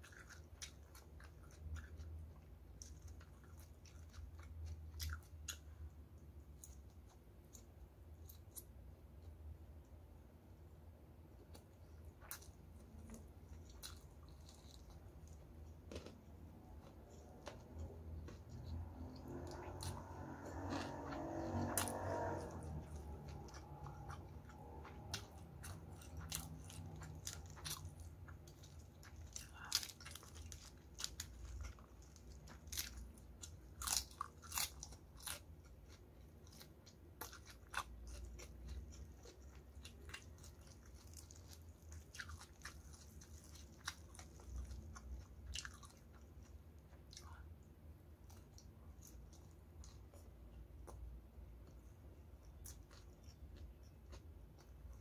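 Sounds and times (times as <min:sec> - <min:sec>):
crunchy chewing: 0:00.0 - 0:08.8, 0:11.4 - 0:47.5, 0:48.2 - 0:55.0.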